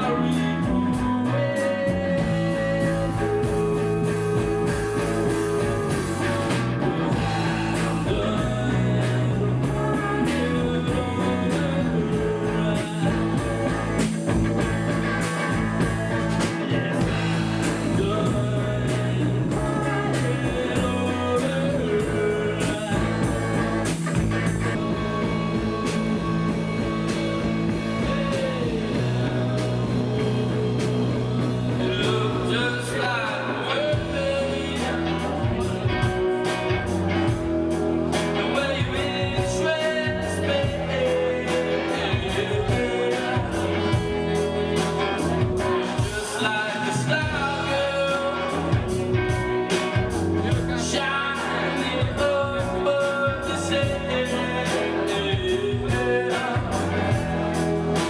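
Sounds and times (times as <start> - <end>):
drum kit beat: 0.0 - 58.0
person singing: 0.0 - 58.0
rock band playing: 0.0 - 58.0.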